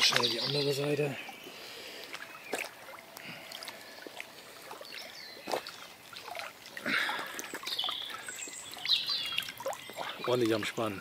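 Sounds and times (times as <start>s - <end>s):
wet fish being handled: 0.0s - 10.4s
water dripping and trickling: 0.0s - 11.0s.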